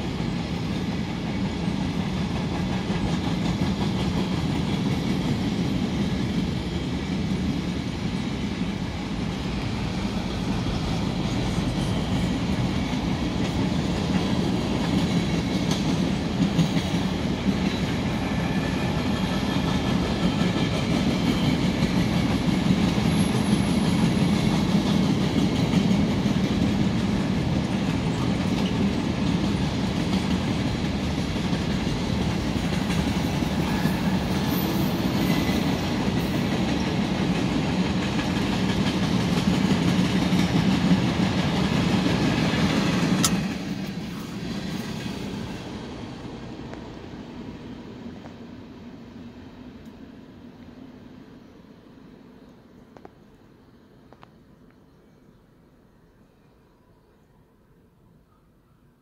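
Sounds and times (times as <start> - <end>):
freight train wheels rumbling: 0.0 - 54.7.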